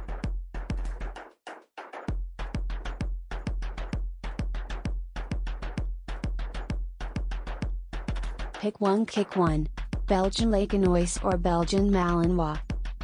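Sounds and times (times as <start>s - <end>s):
electronic music with drum-machine beat: 0.0s - 13.0s.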